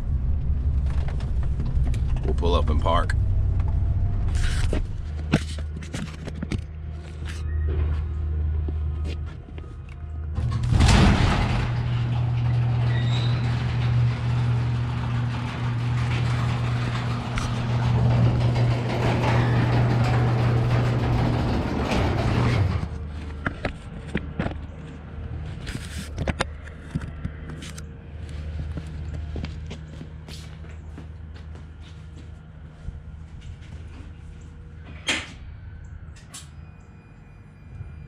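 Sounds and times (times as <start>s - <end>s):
motor hum with rattle: 0.0s - 38.0s.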